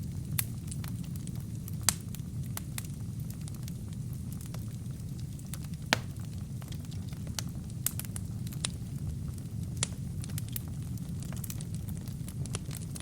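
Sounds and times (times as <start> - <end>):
fire crackles and pops: 0.0 - 13.0
wood fire burning: 0.0 - 13.0.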